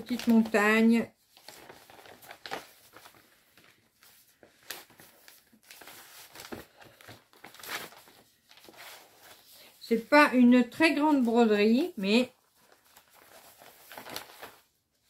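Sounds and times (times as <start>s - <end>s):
plastic packaging rustling: 0.0s - 10.0s, 11.1s - 15.0s.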